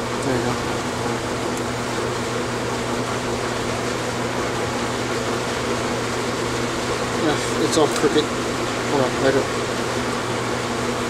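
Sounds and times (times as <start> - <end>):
fan machine humming: 0.0 - 11.0.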